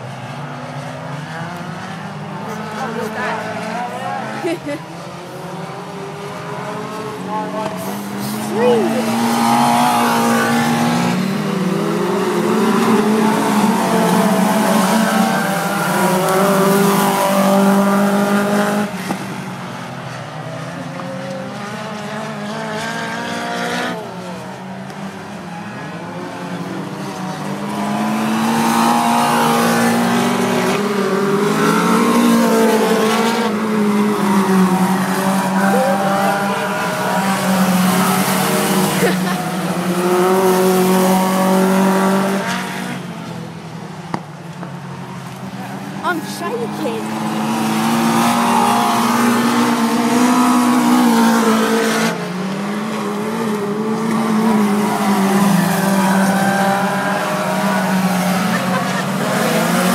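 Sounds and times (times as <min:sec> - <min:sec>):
racing car engines at high revs: 0:00.0 - 0:59.9.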